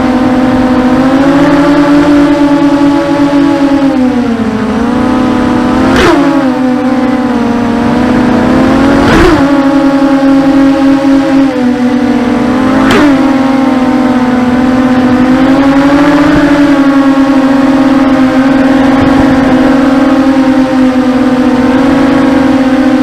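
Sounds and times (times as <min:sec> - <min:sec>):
quadcopter propellers whining: 0:00.0 - 0:23.0.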